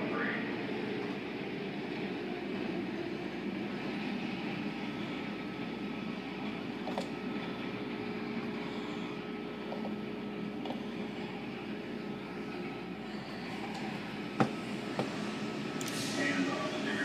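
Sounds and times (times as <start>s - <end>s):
faint machine hum: 0.0s - 17.0s.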